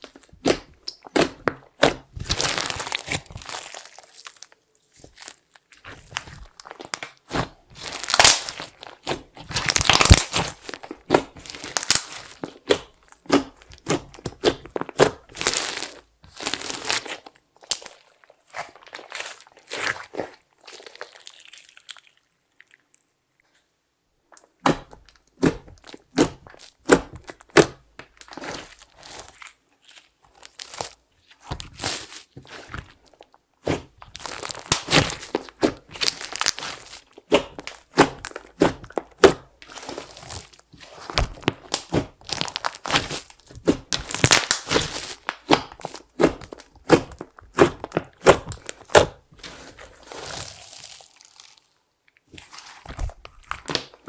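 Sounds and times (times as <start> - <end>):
slime crackling and popping: 0.0 - 23.1, 24.4 - 54.0.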